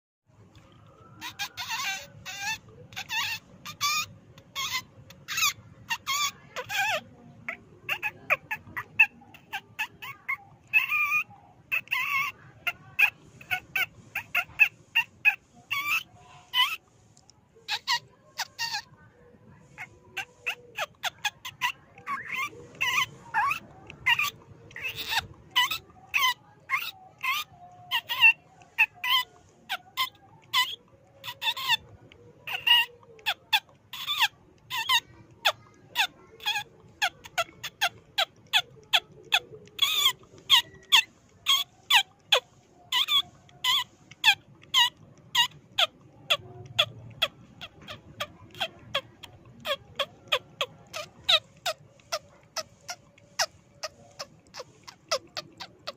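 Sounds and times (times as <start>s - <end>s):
rats squeaking: 0.5s - 55.9s.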